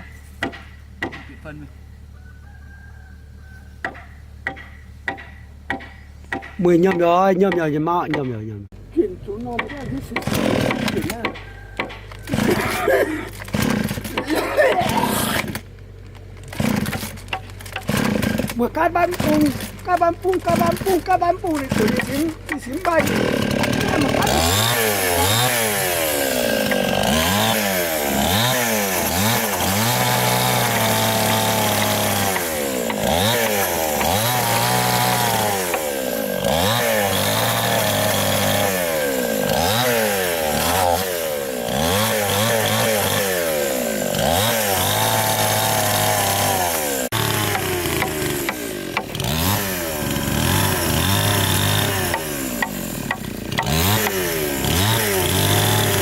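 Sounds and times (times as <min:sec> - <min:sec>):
chainsaw cutting wood: 0:00.0 - 0:01.6, 0:03.8 - 0:08.3, 0:09.4 - 0:56.0.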